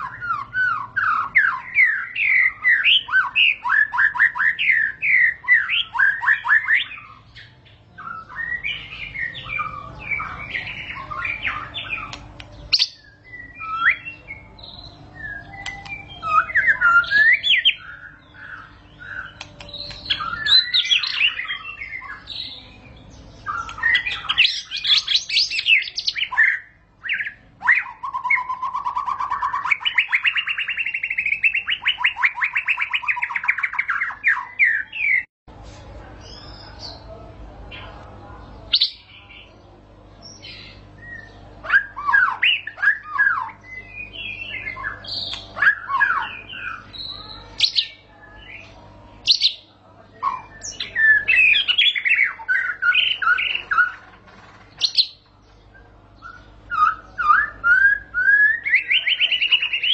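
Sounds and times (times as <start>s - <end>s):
bird singing whistles and trills: 0.0s - 22.8s, 23.4s - 35.3s, 40.2s - 49.6s, 50.2s - 54.1s, 54.8s - 59.9s.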